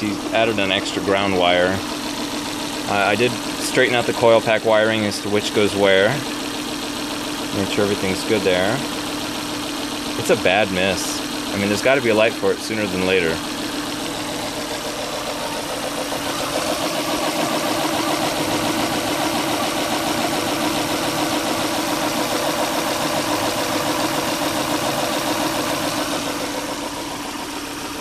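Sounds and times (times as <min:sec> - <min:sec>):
misfiring car engine idling: 0:00.0 - 0:28.0.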